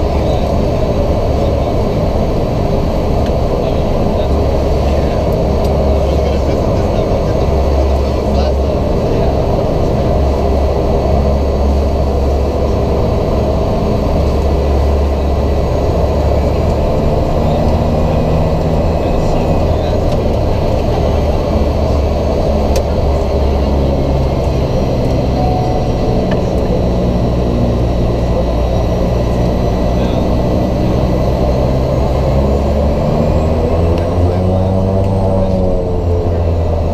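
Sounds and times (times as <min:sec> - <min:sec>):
turboprop engine and propeller hum: 0:00.0 - 0:36.9.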